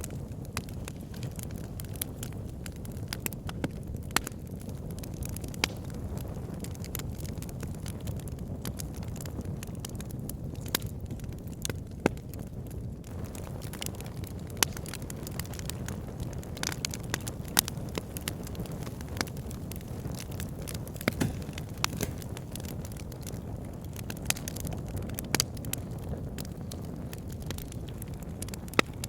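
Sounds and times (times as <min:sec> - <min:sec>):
fire flames rumbling: 0:00.0 - 0:29.0
logs crackling and popping: 0:00.0 - 0:29.0.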